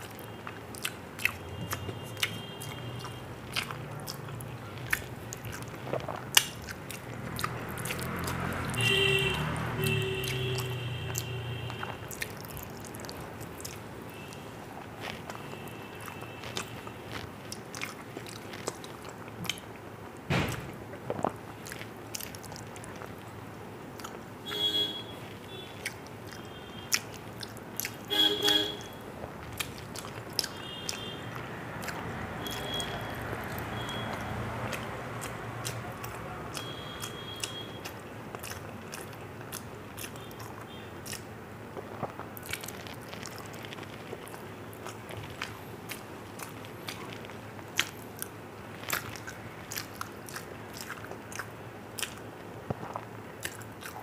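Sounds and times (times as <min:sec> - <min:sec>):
chewing and mouth clicks: 0:00.0 - 0:54.0.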